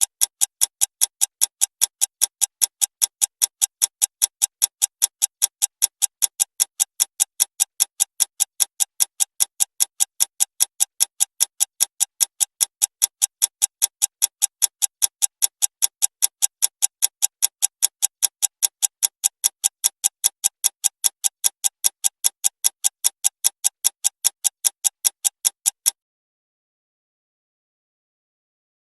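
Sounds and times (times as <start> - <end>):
clock ticking fast: 0.0 - 26.0.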